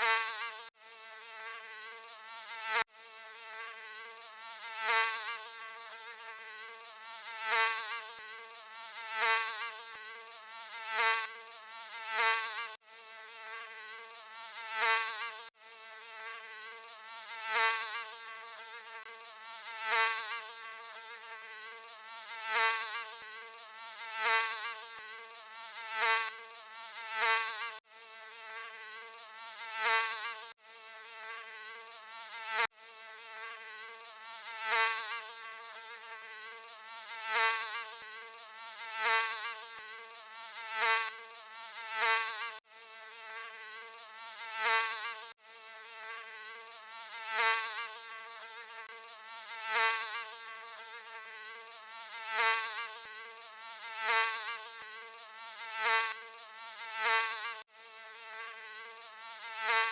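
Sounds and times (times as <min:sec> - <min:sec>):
mosquito buzzing whine: 0:00.0 - 0:59.9.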